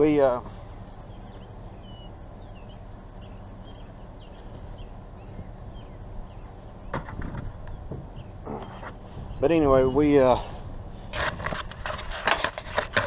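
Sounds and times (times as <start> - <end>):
small birds chirping: 0.0 - 11.1
steady low hum: 0.0 - 13.0.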